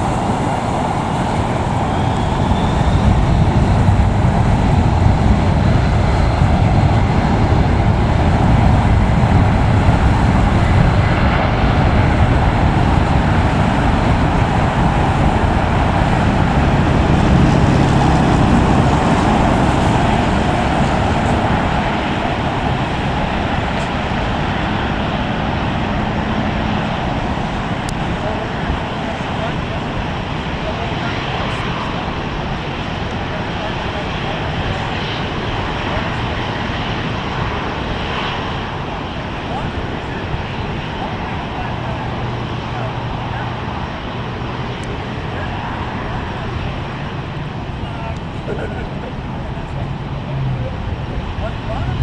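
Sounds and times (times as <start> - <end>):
jet airliner roaring at takeoff: 0.0 - 52.0.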